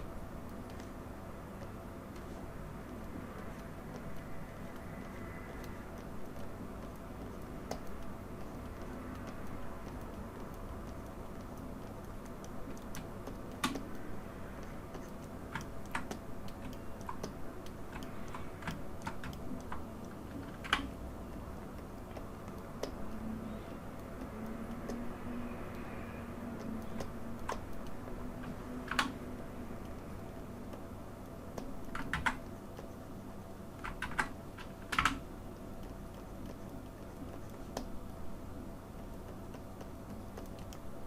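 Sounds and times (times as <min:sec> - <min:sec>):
keyboard and mouse clicks: 0:00.0 - 0:41.0
low background hum: 0:00.0 - 0:41.0.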